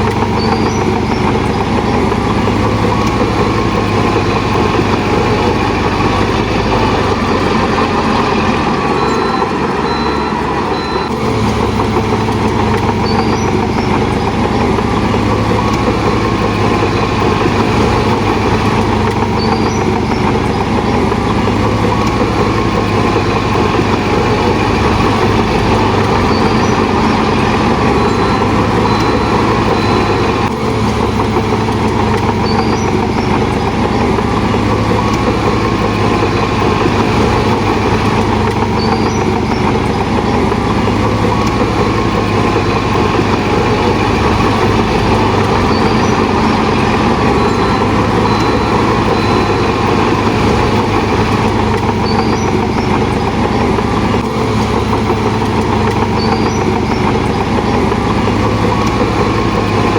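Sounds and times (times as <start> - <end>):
diesel machinery engine hum: 0.0 - 59.9.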